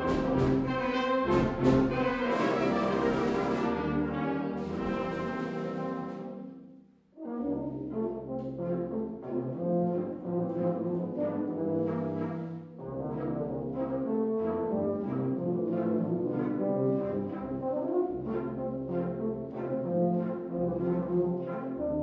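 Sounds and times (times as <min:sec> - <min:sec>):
brass and wind band playing: 0:00.0 - 0:06.6, 0:07.2 - 0:22.0.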